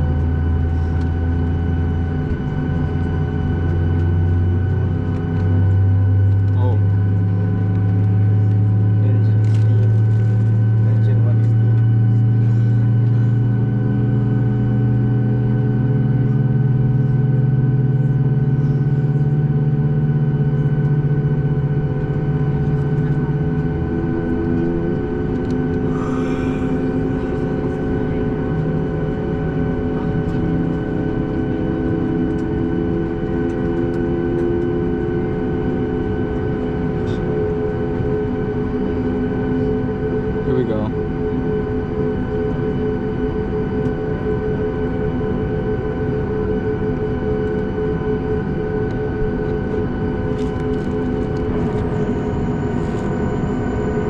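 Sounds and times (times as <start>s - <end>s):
jet engines droning from cabin: 0.0s - 54.0s.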